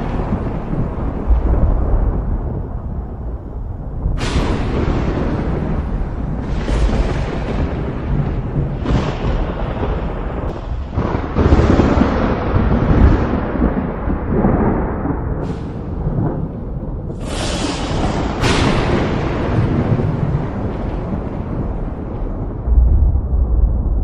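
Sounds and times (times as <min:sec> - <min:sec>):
thunder crack: 0:00.0 - 0:24.0
thunder rumbling: 0:00.0 - 0:24.0.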